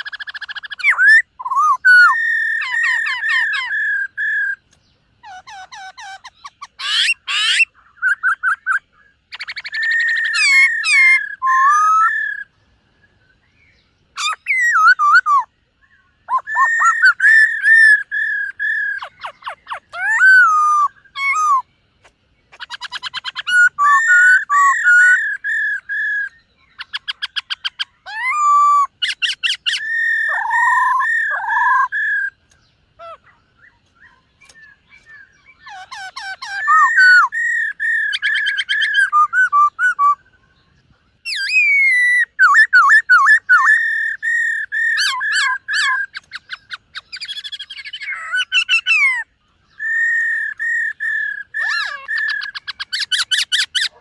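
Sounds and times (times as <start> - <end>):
bird singing whistled trills: 0.0 - 54.0.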